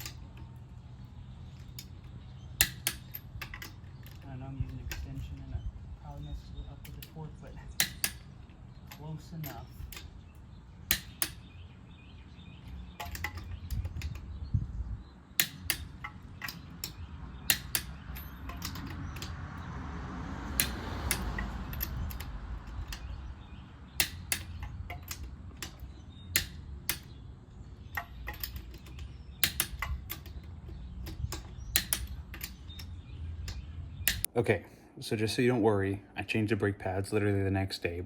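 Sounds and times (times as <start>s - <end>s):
hand tools clicking and knocking: 0.0s - 11.8s, 12.4s - 14.4s, 15.3s - 34.3s
low steady rumble: 0.0s - 34.5s.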